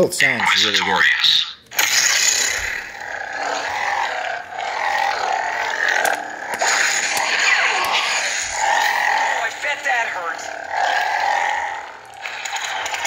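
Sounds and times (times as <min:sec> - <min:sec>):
lightsaber hum: 0:01.3 - 0:13.0.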